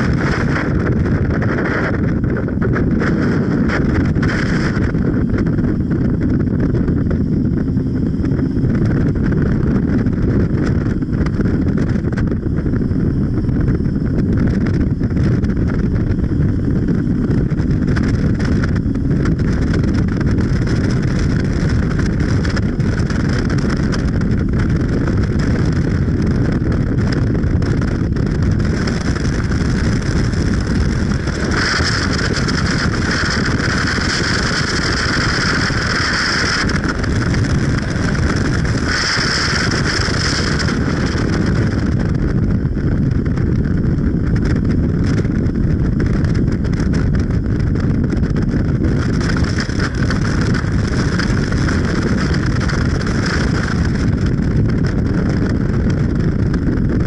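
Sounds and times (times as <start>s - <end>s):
vehicle rumble: 0.0s - 57.0s
wind noise on microphone: 0.0s - 57.0s.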